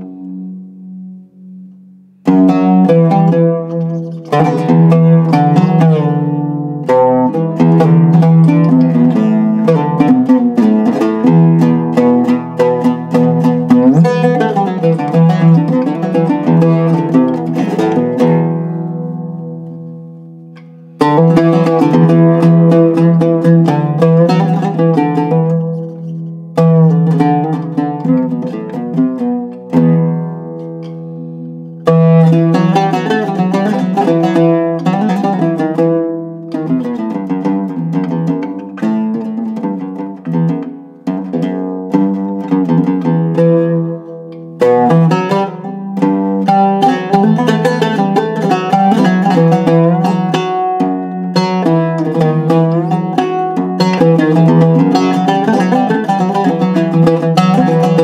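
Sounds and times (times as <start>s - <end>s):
oud plucked with a pick: 0.0s - 58.0s.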